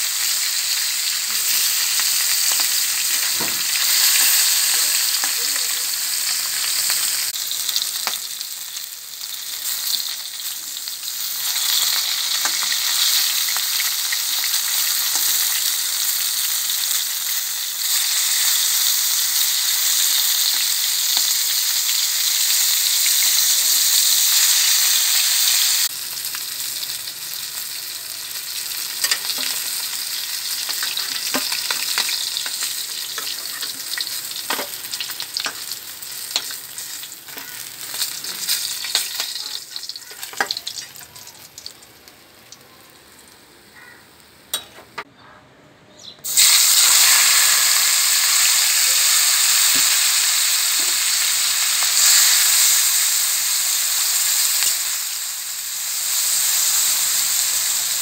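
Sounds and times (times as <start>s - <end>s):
fish sizzling in oil: 0.0s - 44.0s, 46.2s - 58.0s
vegetables sizzling in hot oil: 0.0s - 44.6s, 46.2s - 58.0s.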